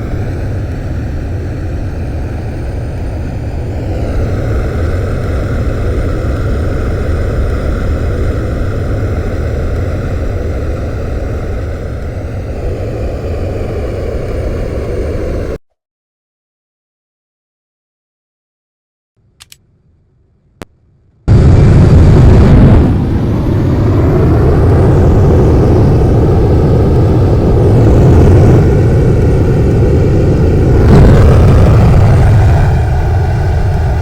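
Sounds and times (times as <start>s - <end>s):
airplane engine rumble: 0.0s - 15.6s, 19.4s - 34.0s
high engine whine: 0.0s - 15.6s, 21.2s - 34.0s.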